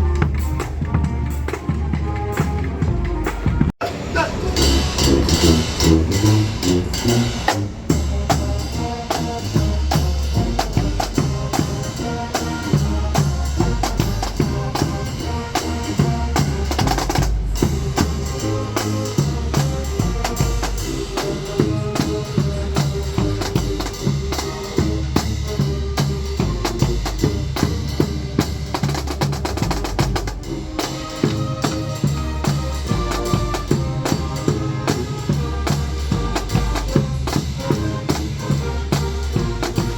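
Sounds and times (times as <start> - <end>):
marching band playing: 0.0 - 39.9
snare and bass drum strokes: 0.0 - 39.9.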